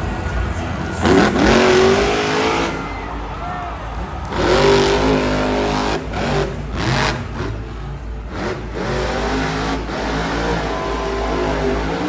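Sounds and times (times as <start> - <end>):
monster truck engine revving: 0.0 - 3.2, 3.9 - 12.0.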